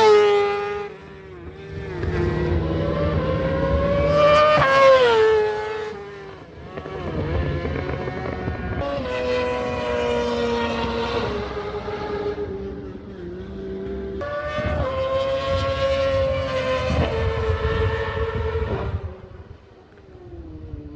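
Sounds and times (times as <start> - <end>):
racing motorcycle engines revving: 0.0 - 20.9.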